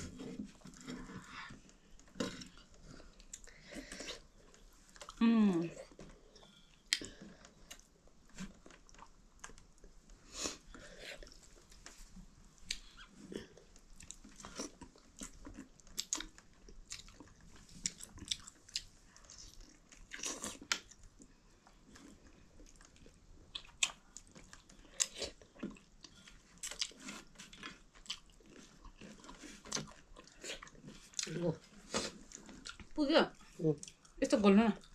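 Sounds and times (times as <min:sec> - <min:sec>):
chewing and crunching: 0:00.0 - 0:05.2, 0:05.8 - 0:34.9.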